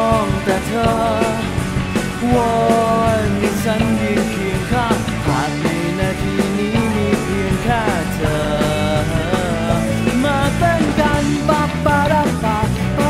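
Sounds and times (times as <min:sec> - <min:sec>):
electric guitar lead line: 0:00.0 - 0:13.0
rock band playing live: 0:00.0 - 0:13.0.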